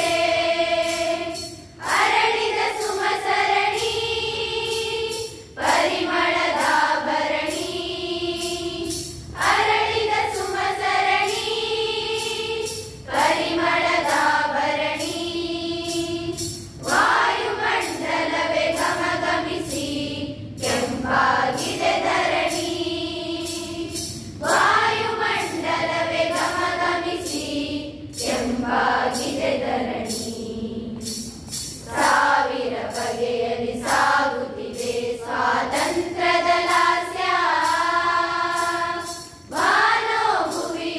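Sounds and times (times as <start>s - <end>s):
group of women singing: 0.0s - 40.9s.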